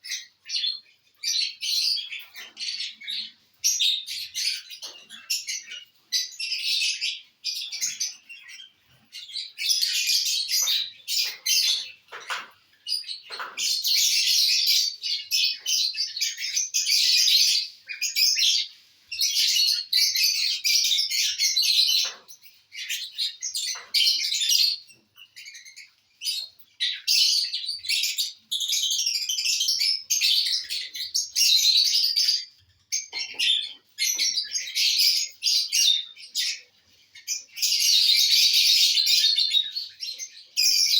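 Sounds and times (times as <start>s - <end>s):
lovebirds chattering: 0.0s - 40.9s.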